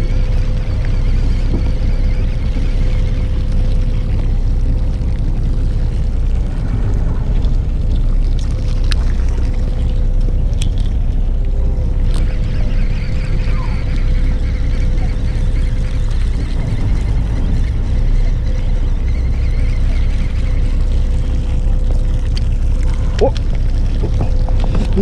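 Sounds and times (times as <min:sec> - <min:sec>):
boat engine rumbling: 0:00.0 - 0:25.0.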